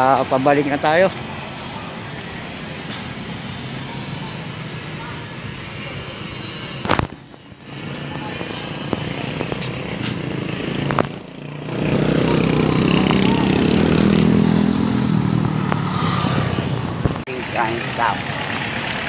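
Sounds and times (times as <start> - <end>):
motorcycle engine passing close: 0.0 - 19.0
street noise: 0.0 - 19.0.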